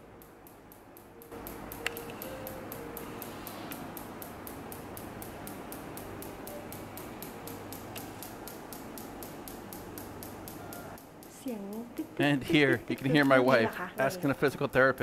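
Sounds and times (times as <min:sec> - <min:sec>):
rapid device clicking: 0:00.1 - 0:15.0.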